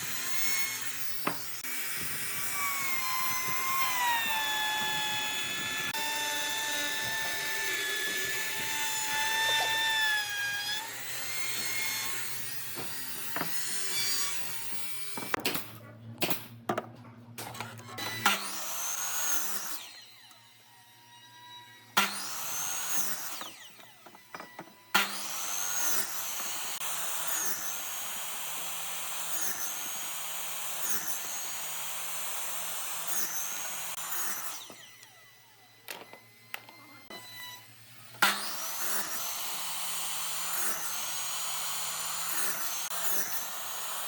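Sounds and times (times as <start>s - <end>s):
power tool whining: 0.0s - 15.4s, 17.4s - 44.0s.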